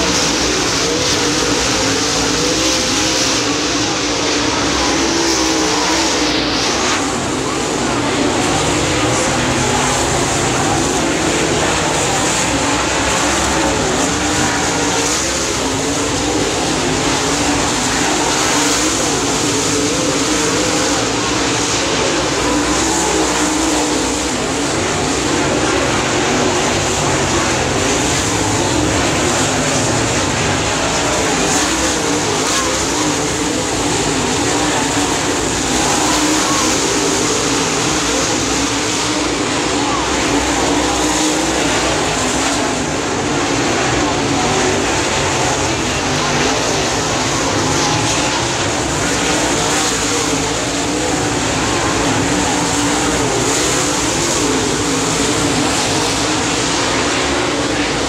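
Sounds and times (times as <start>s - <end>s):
race car engines roaring: 0.0s - 58.0s.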